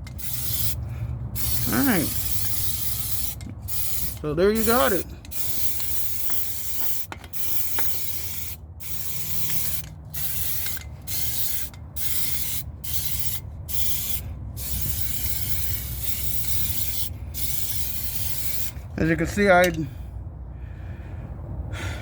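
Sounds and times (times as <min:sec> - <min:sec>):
aerosol spray can hissing: 0:00.1 - 0:00.8, 0:01.4 - 0:18.8.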